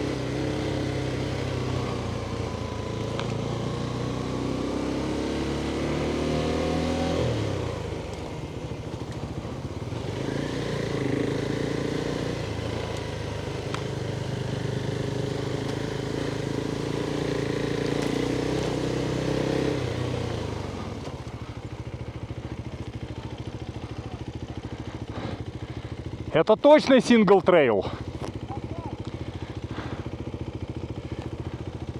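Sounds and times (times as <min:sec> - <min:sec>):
off-road motorcycle engine: 0:00.0 - 0:31.9.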